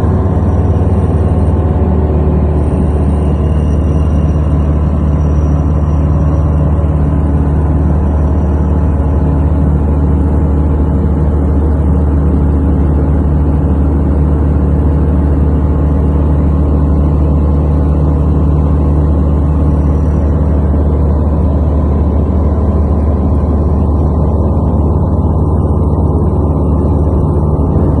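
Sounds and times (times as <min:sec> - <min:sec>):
propeller aircraft engine drone: 0:00.0 - 0:28.0.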